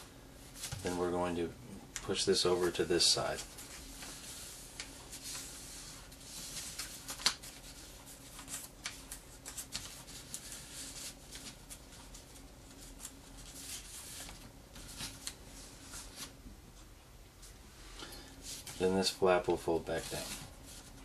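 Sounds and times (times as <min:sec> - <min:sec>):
paper crinkling and rustling: 0:02.1 - 0:16.4, 0:18.4 - 0:21.0.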